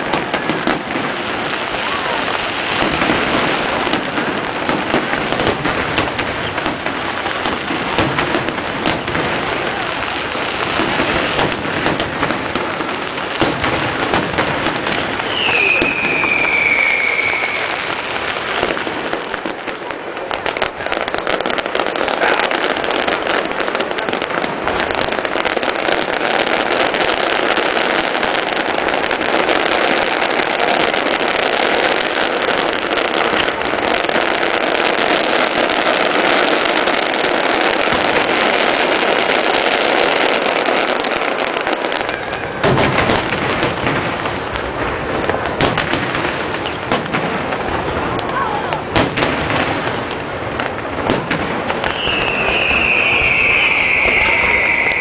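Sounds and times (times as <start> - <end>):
fireworks crackling and popping: 0.0 - 55.0
heavy firework booms: 0.0 - 55.0.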